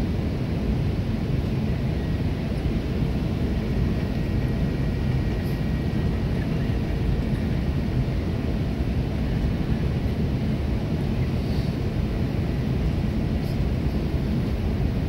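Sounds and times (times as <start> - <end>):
aircraft engine rumble in cabin: 0.0 - 15.0.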